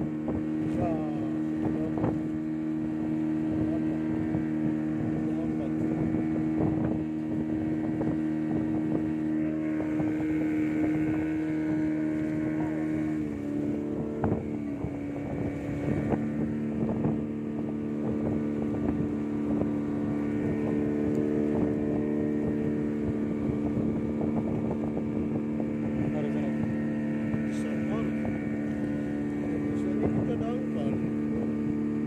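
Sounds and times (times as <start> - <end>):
outboard motor running: 0.0 - 32.0
wind on microphone: 0.0 - 32.0.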